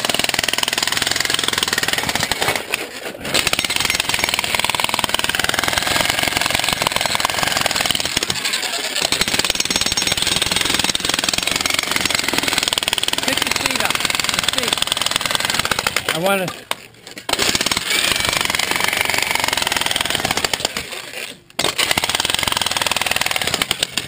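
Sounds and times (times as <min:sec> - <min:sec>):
jackhammer pounding rock: 0:00.0 - 0:24.0.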